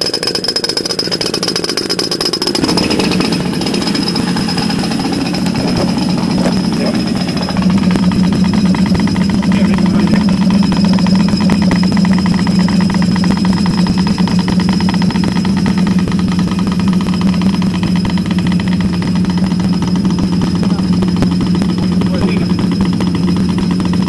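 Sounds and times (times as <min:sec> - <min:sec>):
air compressor drone: 0:00.0 - 0:24.0.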